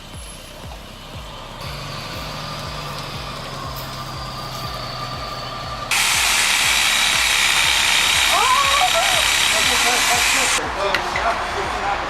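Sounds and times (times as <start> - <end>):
heavy vehicle running: 0.0 - 12.0
loud steady hissing: 0.0 - 12.0.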